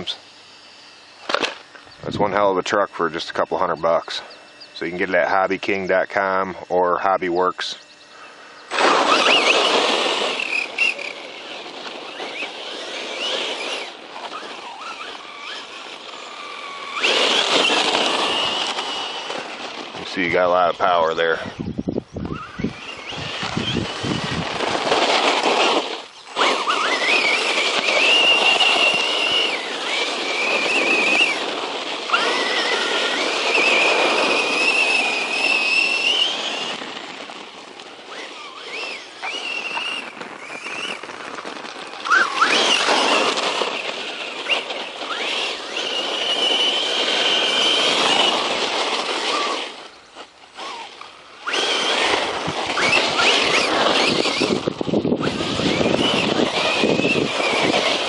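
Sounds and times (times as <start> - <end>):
rc truck motor whining: 0.0 - 58.0.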